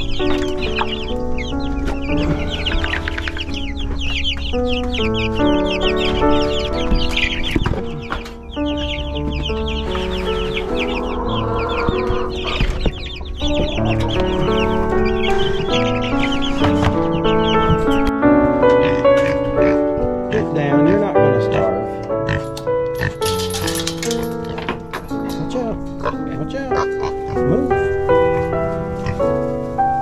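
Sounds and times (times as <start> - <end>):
chickens clucking: 0.0 - 29.7
background music: 0.0 - 30.0.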